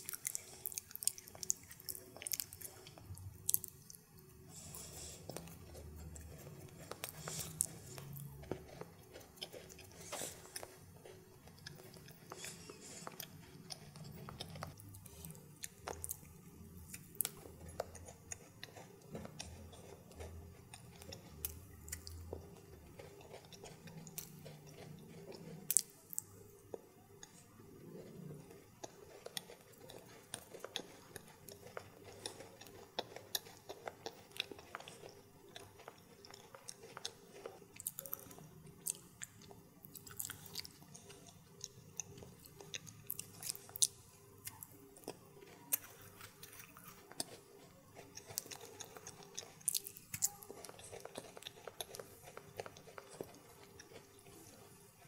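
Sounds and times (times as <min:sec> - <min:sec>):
close chewing: 0:00.0 - 0:55.0.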